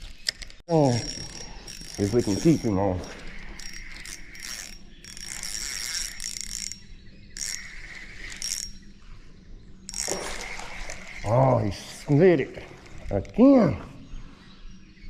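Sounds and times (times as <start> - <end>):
fishing reel gears whirring: 0.7 - 13.6.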